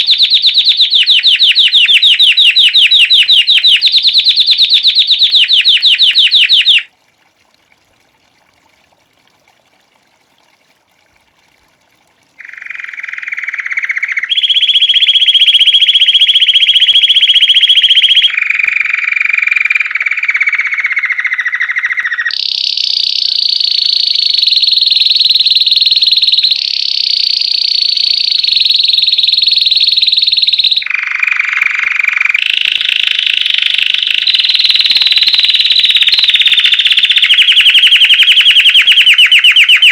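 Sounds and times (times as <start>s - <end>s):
canary singing rapid trills: 0.0s - 6.9s, 12.4s - 39.9s.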